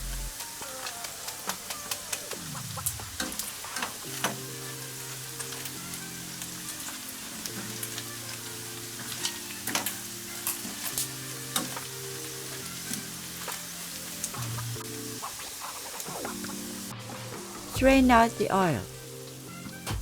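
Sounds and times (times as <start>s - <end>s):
chicken skin sizzling and popping: 0.0s - 20.0s
light background music: 0.0s - 20.0s.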